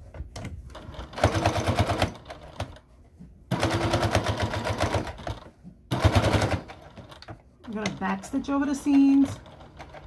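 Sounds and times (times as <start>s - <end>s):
sewing machine stitching: 0.7s - 2.8s, 3.5s - 10.0s.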